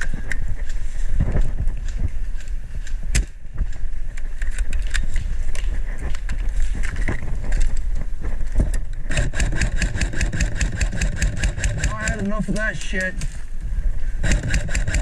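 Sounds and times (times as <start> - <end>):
gear clicks and knocks: 0.0 - 13.3, 14.2 - 15.0.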